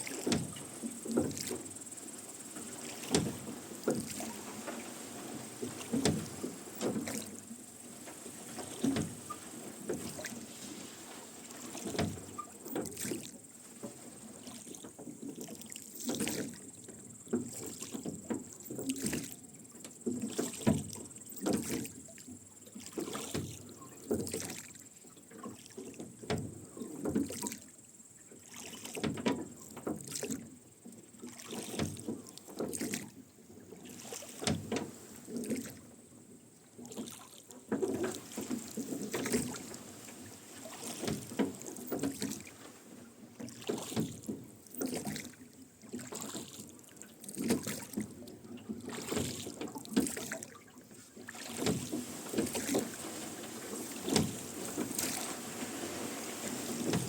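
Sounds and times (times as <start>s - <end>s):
oars dipping and splashing: 0.0s - 57.0s.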